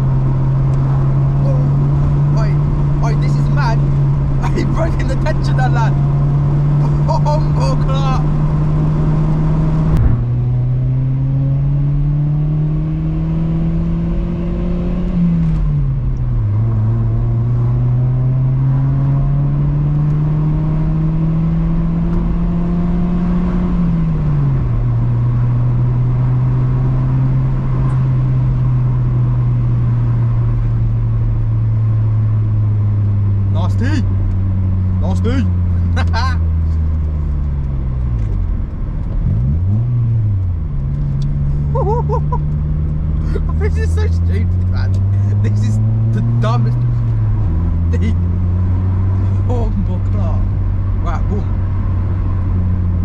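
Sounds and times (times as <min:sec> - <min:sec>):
car engine droning while driving: 0:00.0 - 0:53.0.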